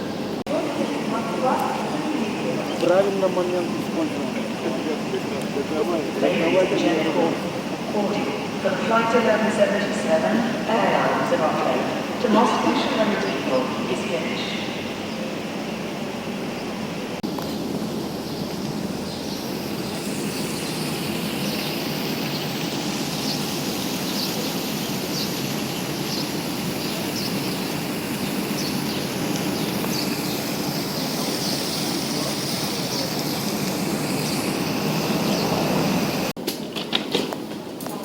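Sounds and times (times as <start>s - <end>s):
airport background din: 0.0s - 38.0s.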